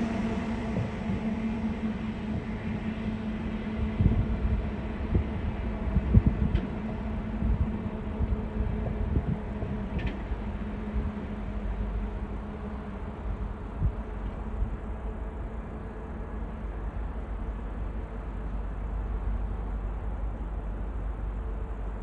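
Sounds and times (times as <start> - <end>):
vehicle rumble with hum: 0.0 - 22.0.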